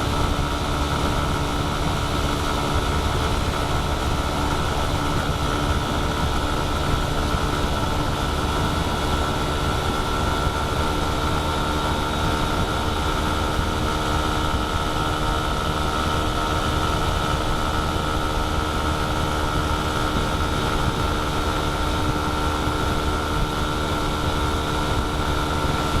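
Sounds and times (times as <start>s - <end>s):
road noise: 0.0s - 26.0s
vehicle engine drone: 0.0s - 26.0s.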